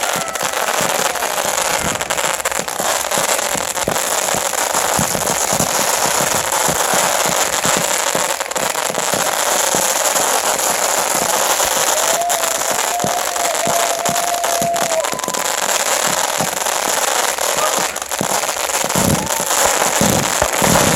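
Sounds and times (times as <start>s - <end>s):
fireworks crackling: 0.0s - 20.9s
loud firework bangs: 0.0s - 20.9s.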